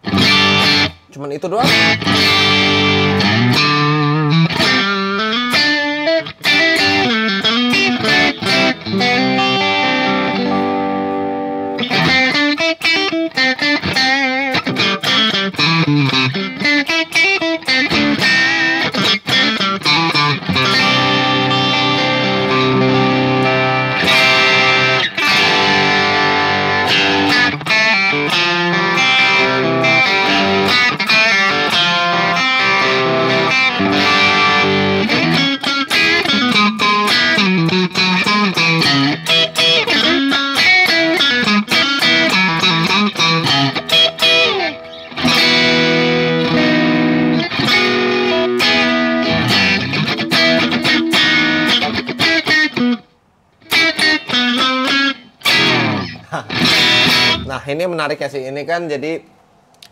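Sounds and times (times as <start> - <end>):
overdriven electric guitar: 0.0 - 57.6.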